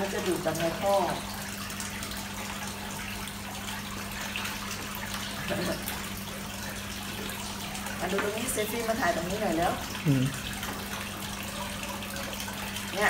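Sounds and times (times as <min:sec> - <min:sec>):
water running into plastic bucket: 0:00.0 - 0:13.0.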